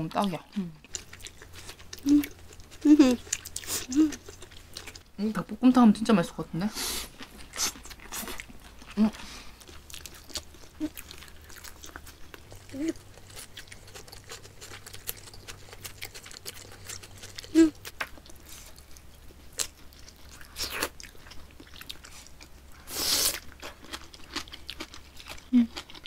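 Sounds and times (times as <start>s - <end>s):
chewing and crunching: 0.0s - 5.2s, 6.8s - 26.0s.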